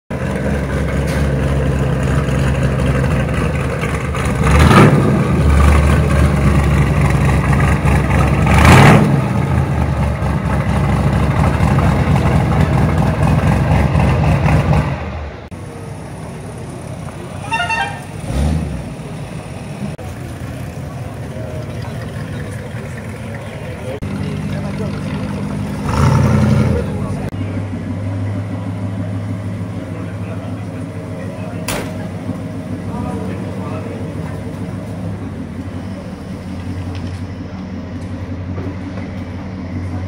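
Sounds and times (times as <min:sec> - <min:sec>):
car engine idling and revving: 0:00.1 - 0:40.0.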